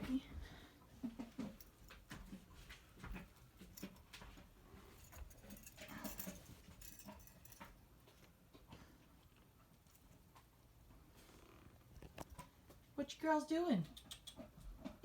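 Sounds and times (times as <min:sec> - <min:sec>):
pet rustling and clicking: 0:00.0 - 0:13.0, 0:13.8 - 0:15.0.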